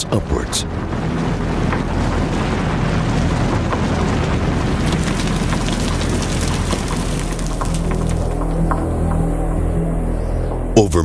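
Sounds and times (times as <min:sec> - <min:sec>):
scattered crackles: 0:00.0 - 0:10.2
rock and earth rumbling: 0:00.0 - 0:10.8
low drone: 0:00.0 - 0:11.0.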